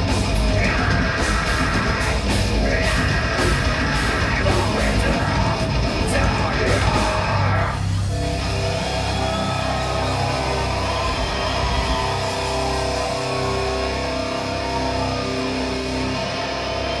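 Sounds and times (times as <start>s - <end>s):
live heavy metal band: 0.0s - 17.0s.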